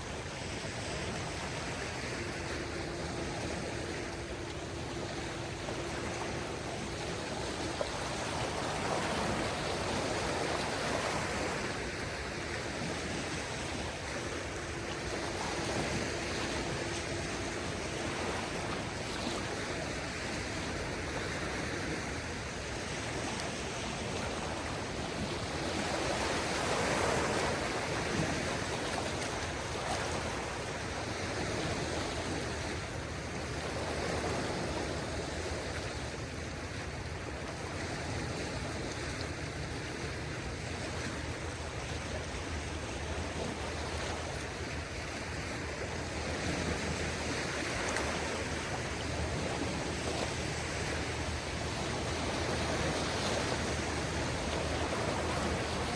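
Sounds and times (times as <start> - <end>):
small waves washing onto beach: 0.0 - 55.9.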